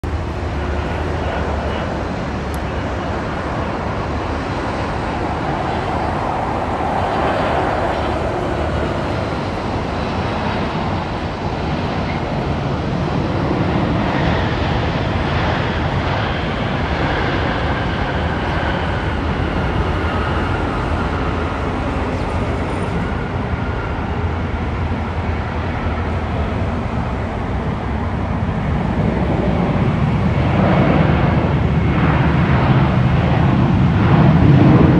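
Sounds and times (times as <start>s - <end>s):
jet airliner engine roar: 0.0s - 34.9s.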